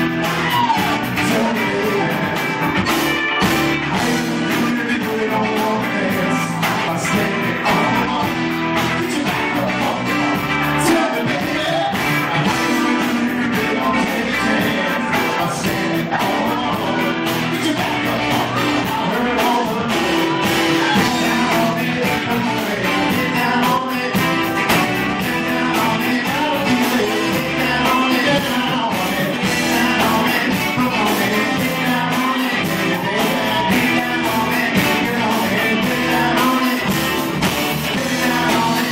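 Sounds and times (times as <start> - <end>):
male singer: 0.0 - 2.8, 3.8 - 38.9
live rock band playing: 0.0 - 38.9.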